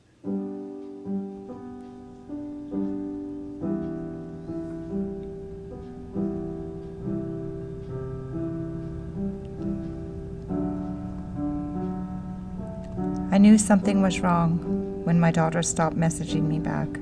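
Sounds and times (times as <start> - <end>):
slow solo piano music: 0.0 - 17.0.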